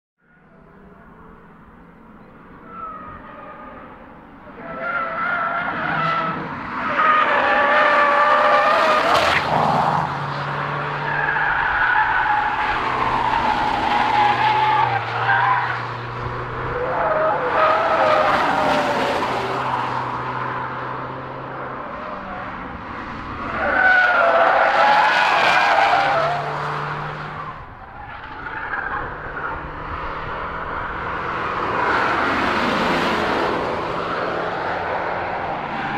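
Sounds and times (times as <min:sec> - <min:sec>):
race car engines revving past: 0:02.6 - 0:35.9.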